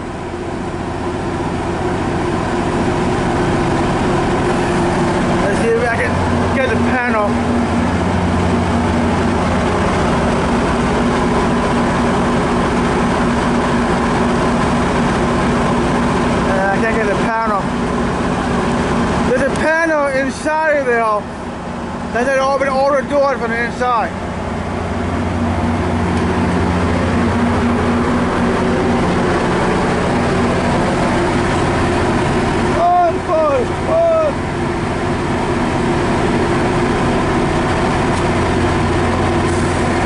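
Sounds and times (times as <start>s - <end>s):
diesel locomotive engine hum: 0.0s - 40.0s.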